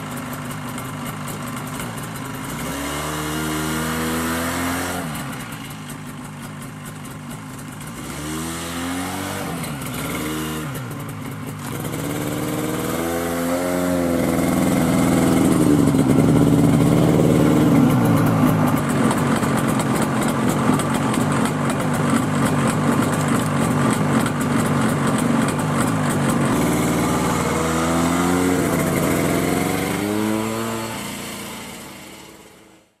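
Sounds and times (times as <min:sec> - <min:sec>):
snowmobile engine revving: 0:01.7 - 0:05.6, 0:07.8 - 0:32.9.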